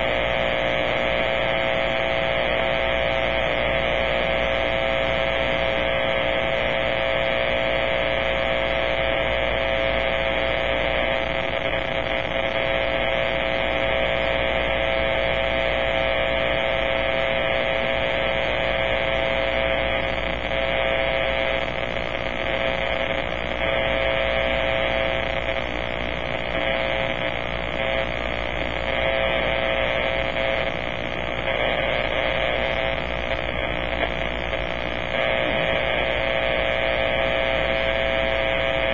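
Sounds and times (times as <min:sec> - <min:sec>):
harsh radio buzz: 0:00.0 - 0:38.9.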